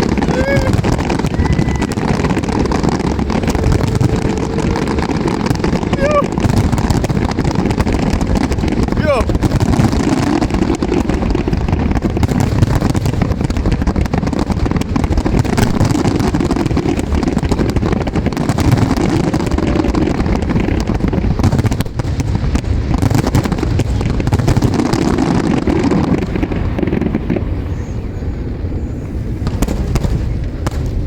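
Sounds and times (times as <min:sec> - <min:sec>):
fireworks bursting and crackling: 0:00.0 - 0:31.0.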